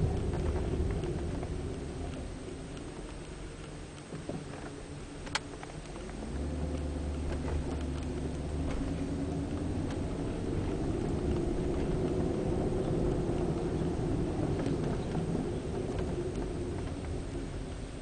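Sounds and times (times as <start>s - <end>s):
car road and drivetrain noise: 0.0s - 18.0s
faint ticks and creaks: 0.0s - 18.0s.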